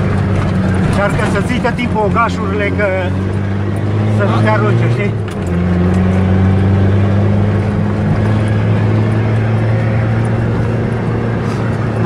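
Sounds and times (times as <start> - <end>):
car engine from inside cabin: 0.0 - 12.0.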